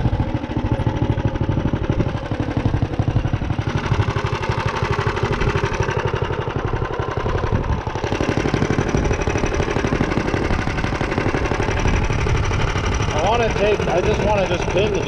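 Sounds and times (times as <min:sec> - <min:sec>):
minibike engine running: 0:00.0 - 0:15.0.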